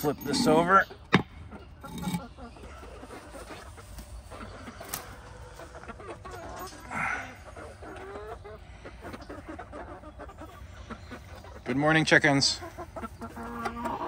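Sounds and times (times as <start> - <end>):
chickens clucking: 0.0 - 14.0
chicken warbling calls: 0.3 - 14.0.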